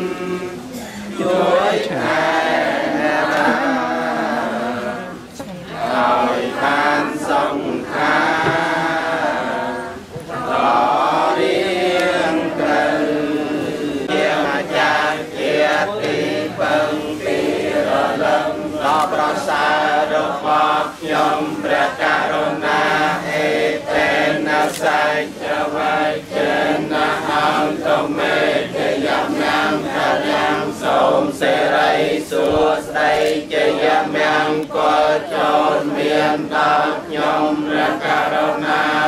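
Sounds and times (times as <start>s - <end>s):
group chanting in unison: 0.0s - 39.0s.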